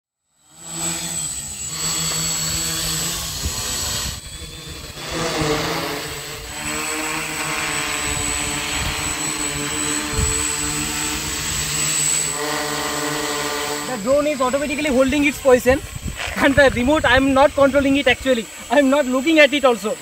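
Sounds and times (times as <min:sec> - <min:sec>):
quadcopter propellers whirring: 0:00.2 - 0:20.0.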